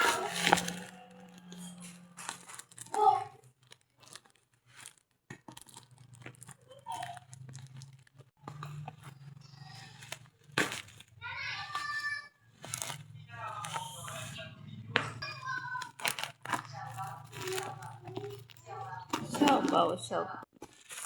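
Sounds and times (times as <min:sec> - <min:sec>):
packaging crunching and tearing: 0:00.0 - 0:14.3, 0:15.3 - 0:19.8, 0:20.5 - 0:21.0.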